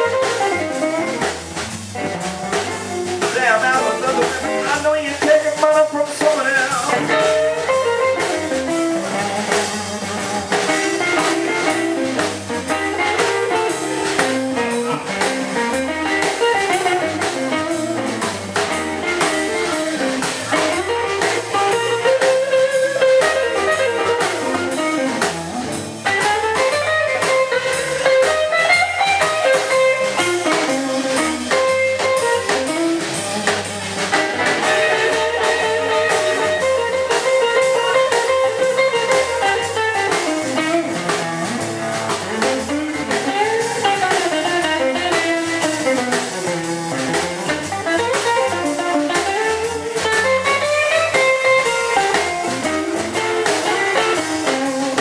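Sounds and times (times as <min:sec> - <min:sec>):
drum kit steady beat: 0:00.0 - 0:55.0
electric bass: 0:00.0 - 0:55.0
electric guitar: 0:00.0 - 0:55.0.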